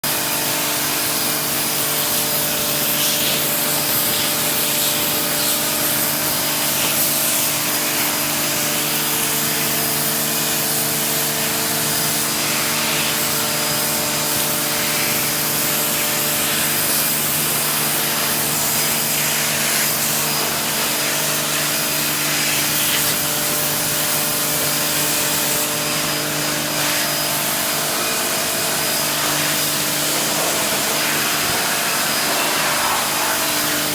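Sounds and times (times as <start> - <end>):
pressure washer motor humming: 0.0 - 33.9
water jet hissing: 0.0 - 33.9.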